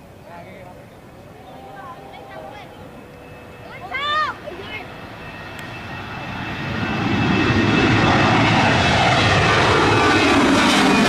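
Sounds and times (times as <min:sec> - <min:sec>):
jet airliner roaring past: 0:00.9 - 0:11.0.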